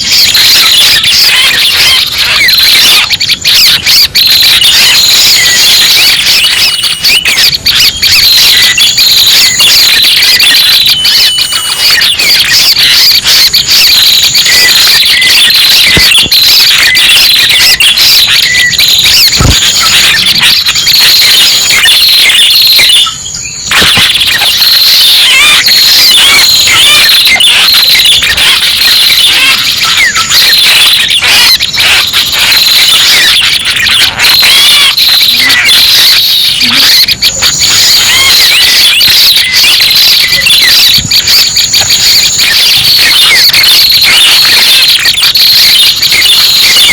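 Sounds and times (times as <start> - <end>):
rapid high bird chirps and trills: 0.0 - 40.8.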